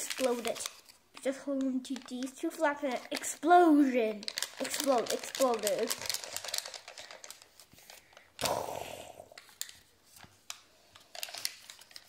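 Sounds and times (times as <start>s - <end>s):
paper rustling and crinkling: 0.0s - 8.3s, 9.4s - 12.0s.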